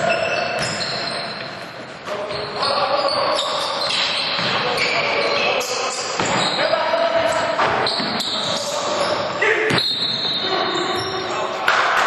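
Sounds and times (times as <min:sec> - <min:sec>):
shoes squeaking on floor: 0:00.0 - 0:11.6.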